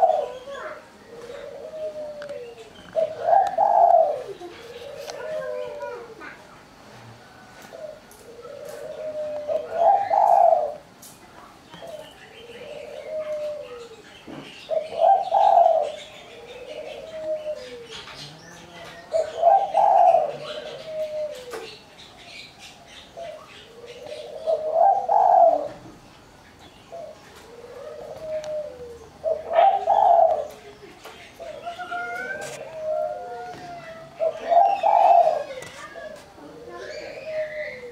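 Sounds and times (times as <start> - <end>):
dove cooing: 0.0 - 11.0, 11.8 - 26.1, 26.9 - 37.9.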